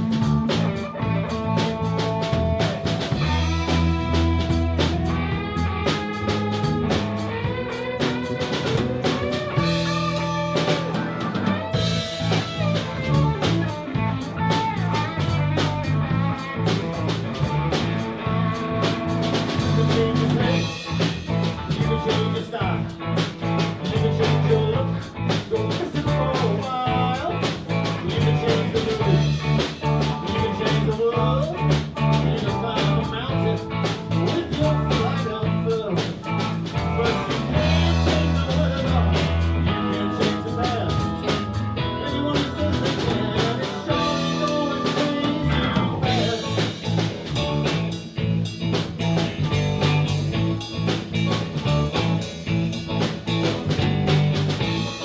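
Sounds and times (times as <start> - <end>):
bending blues guitar notes: 0.0 - 55.0
drum kit beat: 0.0 - 55.0.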